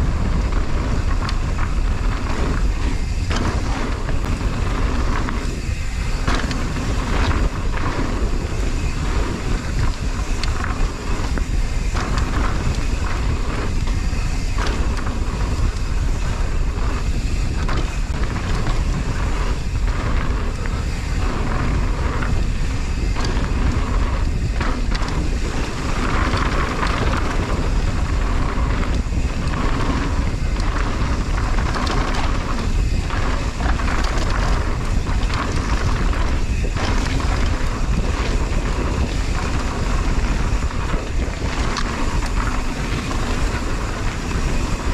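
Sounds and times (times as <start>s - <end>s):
bike clattering over bumps: 0.0s - 44.9s
bike tyre noise: 0.0s - 44.9s
wind buffeting microphone: 0.0s - 44.9s.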